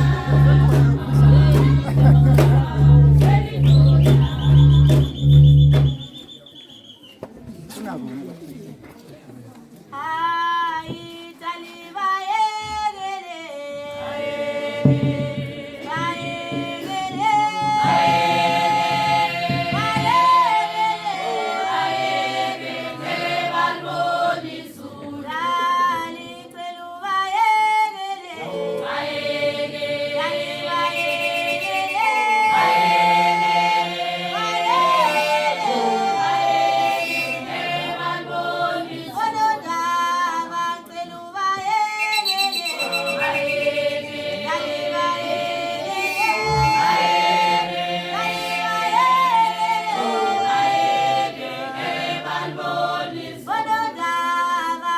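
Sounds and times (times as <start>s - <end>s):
group singing in harmony: 0.0s - 6.0s, 13.6s - 54.9s.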